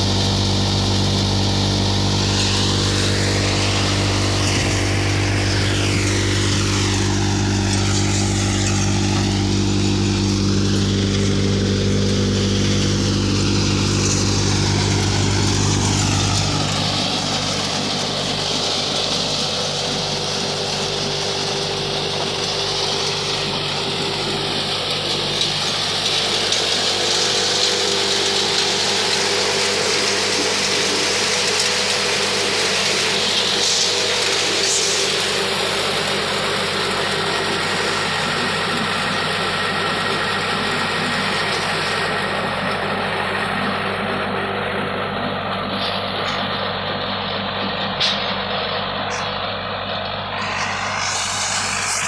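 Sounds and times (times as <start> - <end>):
crop thresher hissing: 0.0 - 52.0
tractor engine hum: 0.0 - 52.0.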